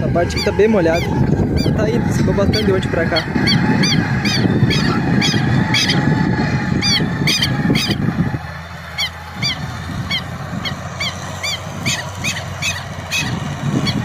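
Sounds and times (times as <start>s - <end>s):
bird honking calls: 0.0s - 14.0s
tractor engine running: 0.0s - 14.0s.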